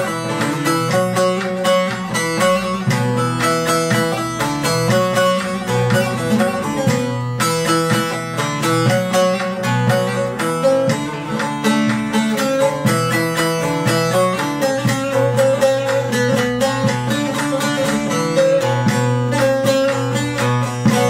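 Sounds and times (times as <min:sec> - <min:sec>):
long-necked lute picked melody: 0:00.0 - 0:21.0.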